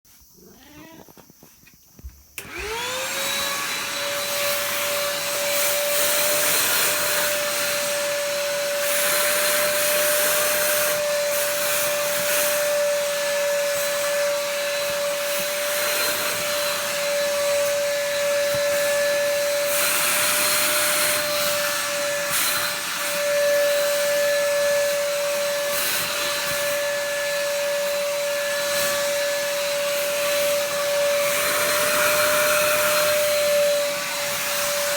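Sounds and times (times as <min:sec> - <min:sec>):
vacuum cleaner motor whine: 0:02.0 - 0:34.9.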